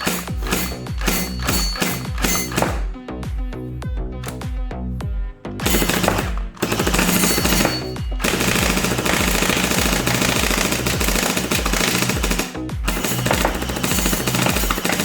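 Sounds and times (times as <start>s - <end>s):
gel blaster firing full auto: 0.0s - 3.0s, 5.6s - 15.0s
background music with steady beat: 0.0s - 15.0s.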